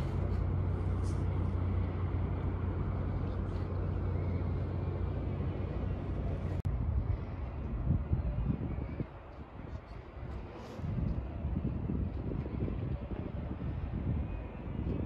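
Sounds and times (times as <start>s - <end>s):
low engine hum: 0.0s - 15.0s
outdoor background noise: 0.0s - 15.0s.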